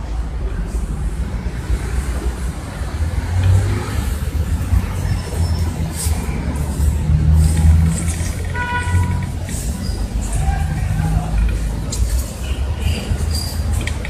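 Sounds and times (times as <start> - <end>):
street background rumble: 0.0 - 14.0.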